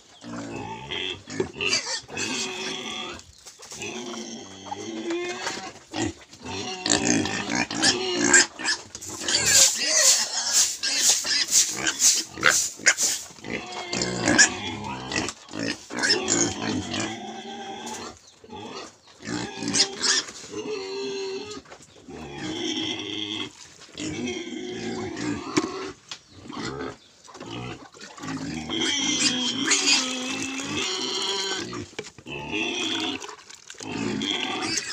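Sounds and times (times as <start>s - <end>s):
pigs squealing and grunting: 0.0s - 34.9s.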